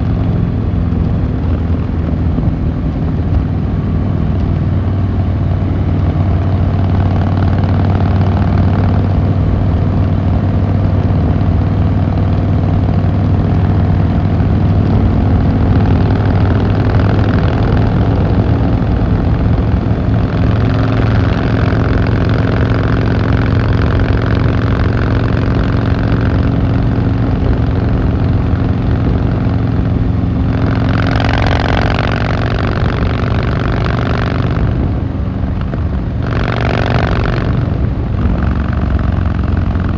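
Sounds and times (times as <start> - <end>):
motorcycle engine running: 0.0 - 39.9
rush of noise: 0.0 - 39.9.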